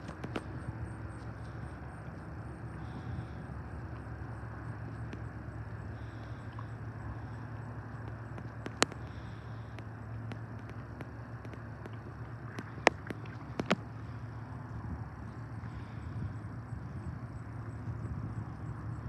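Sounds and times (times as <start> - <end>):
outdoor rumble: 0.0 - 19.0
ship engine drone: 0.0 - 19.0.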